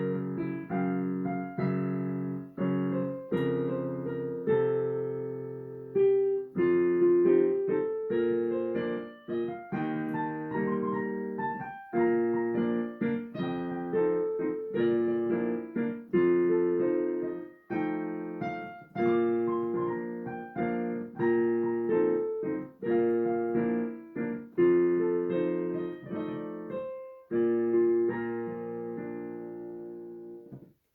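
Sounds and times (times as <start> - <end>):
slow piano chords: 0.0 - 30.8.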